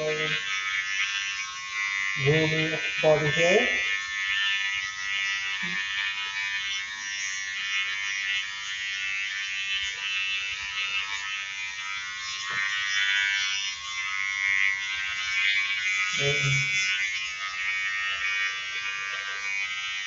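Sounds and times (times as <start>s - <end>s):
cordless trimmer buzzing: 0.0s - 20.0s.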